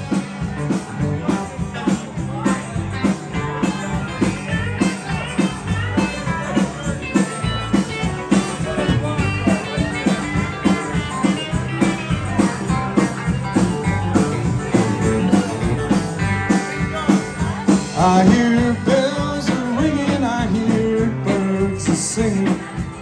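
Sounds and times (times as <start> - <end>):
bass: 0.0 - 23.0
lead guitar: 0.0 - 23.0
steady beat: 0.0 - 23.0.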